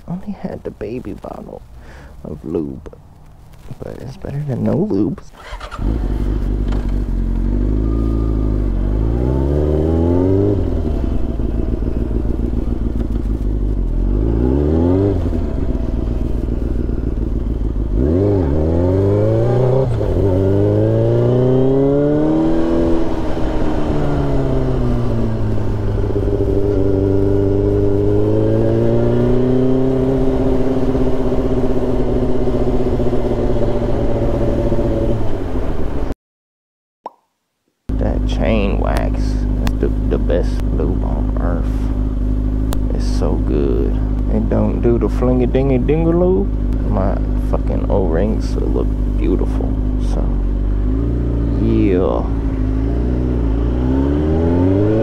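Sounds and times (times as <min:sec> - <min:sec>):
motorcycle engine accelerating: 0:03.6 - 0:36.1, 0:37.9 - 0:55.0.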